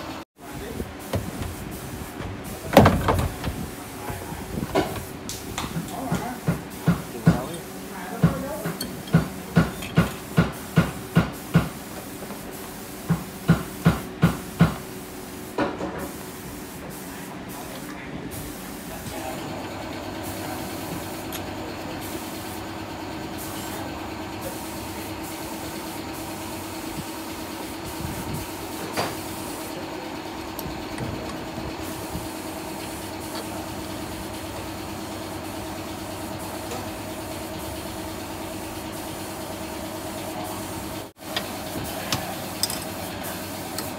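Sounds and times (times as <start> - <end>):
steady mechanical hum: 0.0 - 43.9.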